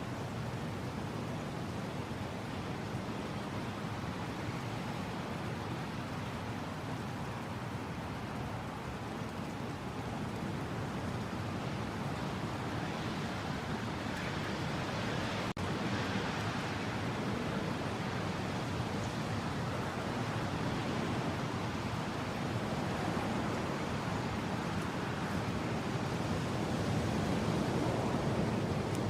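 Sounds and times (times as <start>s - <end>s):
rushing wind: 0.0s - 29.0s.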